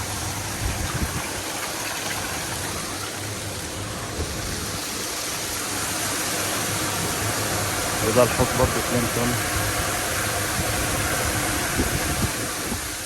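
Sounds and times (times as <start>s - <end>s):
low machine hum: 0.0s - 13.0s
rushing water: 0.0s - 13.0s.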